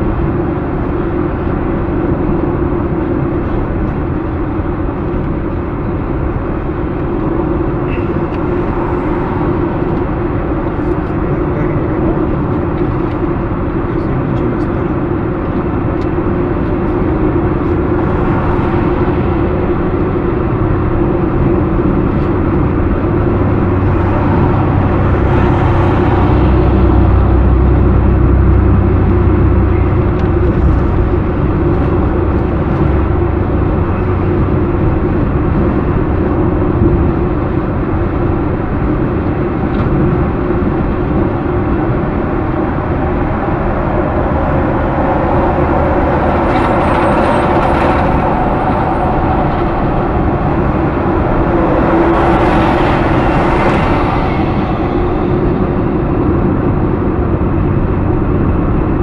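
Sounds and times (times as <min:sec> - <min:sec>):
tyre and engine rumble: 0:00.0 - 0:59.0.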